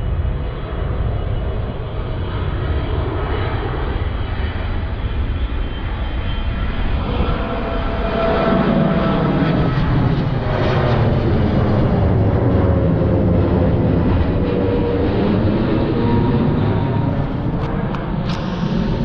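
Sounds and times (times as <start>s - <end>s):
faint engine whine: 0.0s - 19.0s
jet engines rumbling overhead: 0.0s - 19.0s
wind buffeting microphone: 0.0s - 19.0s.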